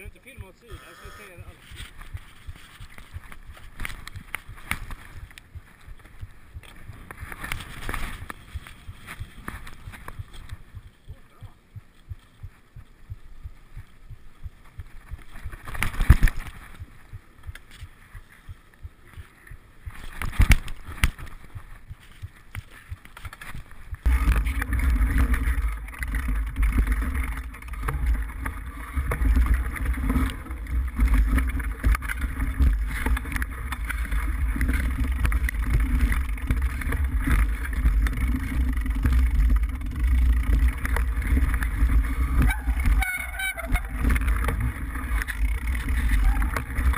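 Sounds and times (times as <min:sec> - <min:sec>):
tyres rumbling on dirt: 0:00.0 - 0:46.9
wind: 0:00.0 - 0:46.9.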